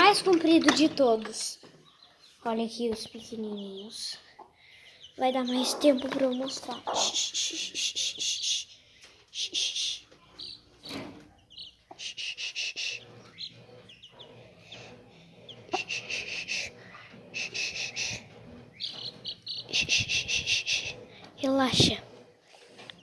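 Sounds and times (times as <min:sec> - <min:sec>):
baby chicks peeping: 0:00.1 - 0:23.0.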